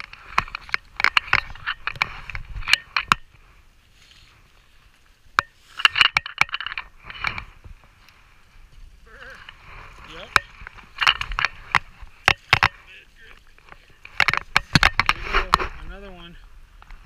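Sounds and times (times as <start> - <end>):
scraping and crackling: 0.0 - 17.0.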